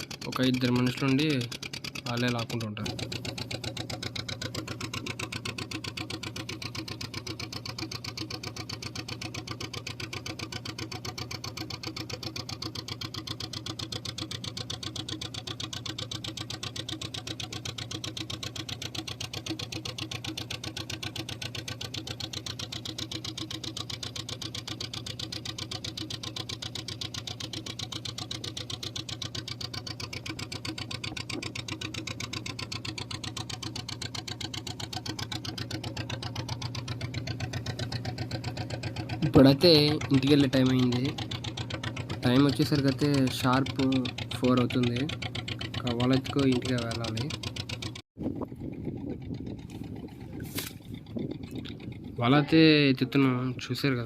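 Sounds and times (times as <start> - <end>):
boat engine pulsing: 0.0 - 54.0.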